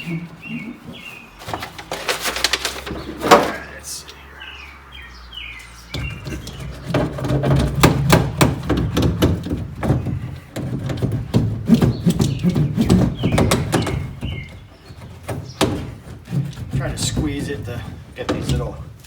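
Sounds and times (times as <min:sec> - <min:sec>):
foil mat crinkling and knocking: 0:00.0 - 0:03.7, 0:06.0 - 0:19.0.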